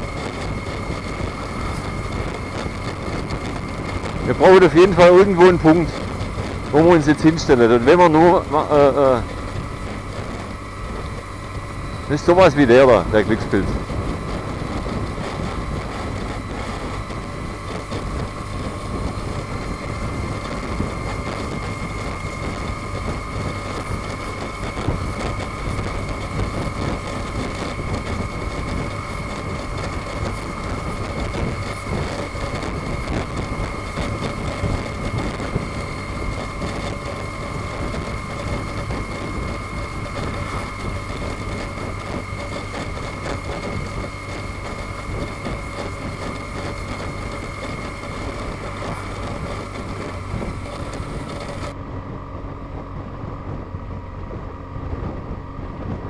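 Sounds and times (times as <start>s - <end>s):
moving vehicle running noise: 0.0s - 56.0s
steady high whine: 0.0s - 56.0s.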